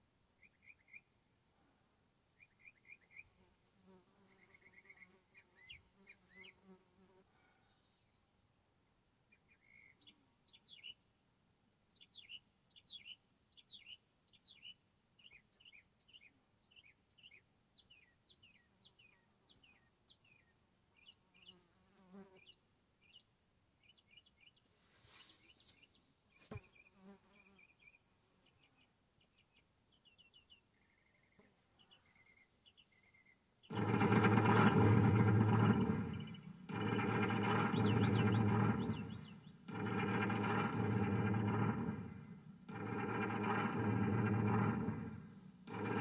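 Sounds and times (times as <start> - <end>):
bird chirps: 0.4 - 1.1, 2.4 - 3.4, 4.3 - 6.7, 9.3 - 11.0, 12.0 - 21.7, 22.3 - 46.0.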